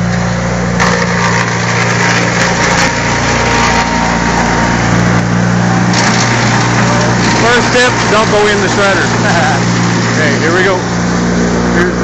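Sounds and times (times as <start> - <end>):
wood chipper engine running: 0.0 - 12.0.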